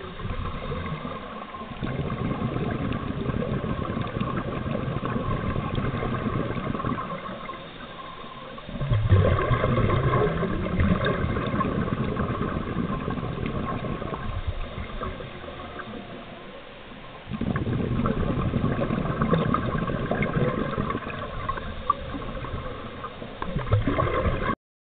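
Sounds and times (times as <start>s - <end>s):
underwater air bubbles gurgling: 0.0s - 24.6s.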